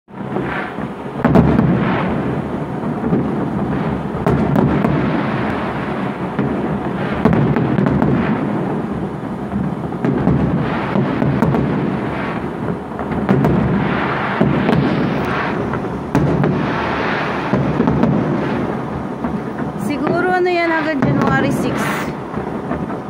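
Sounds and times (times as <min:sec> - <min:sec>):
fireworks booming: 0:00.1 - 0:23.0
sharp firework cracks: 0:00.1 - 0:23.0.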